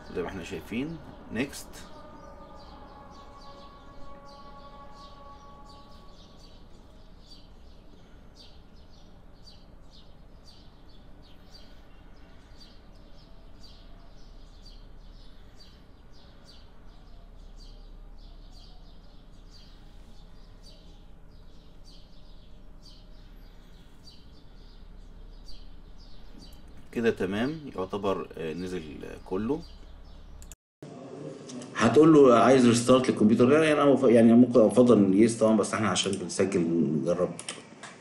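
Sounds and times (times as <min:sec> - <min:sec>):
low steady hum: 0:00.0 - 0:37.8.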